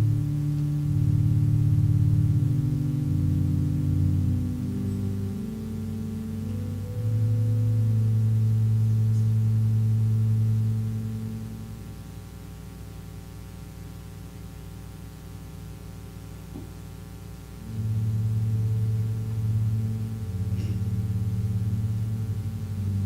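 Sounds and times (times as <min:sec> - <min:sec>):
slow sustained instrumental chords: 0:00.0 - 0:23.0.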